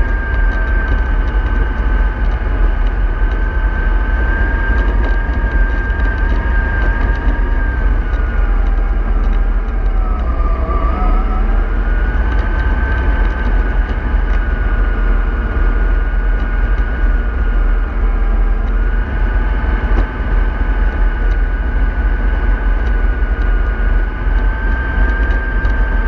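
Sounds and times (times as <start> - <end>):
vehicle engine rumbling: 0.0 - 26.0
whining drive tone: 0.0 - 26.0.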